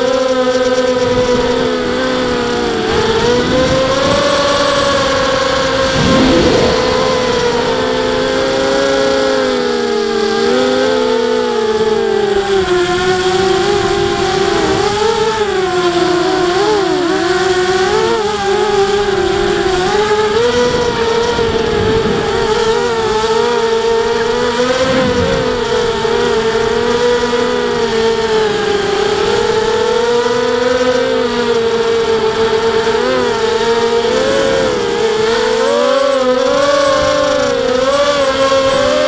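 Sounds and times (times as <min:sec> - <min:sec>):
quadcopter motors buzzing whine: 0:00.0 - 0:39.0.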